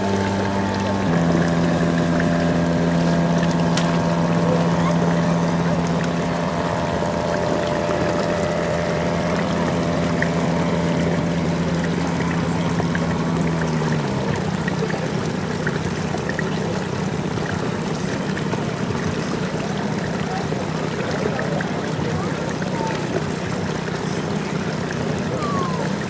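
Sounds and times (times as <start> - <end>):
model boat electric motor hum: 0.0 - 26.0
rushing water-like noise: 0.0 - 26.0.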